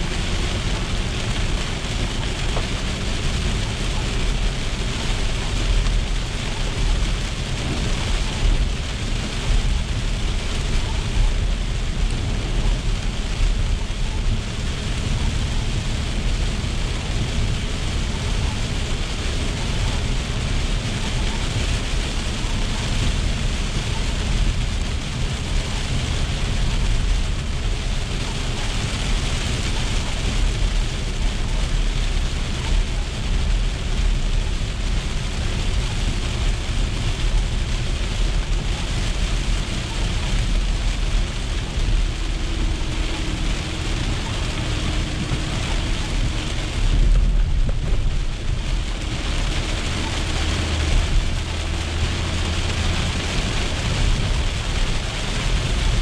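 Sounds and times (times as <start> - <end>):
car road and engine rumble: 0.0 - 56.0
heavy rain on car roof: 0.0 - 56.0.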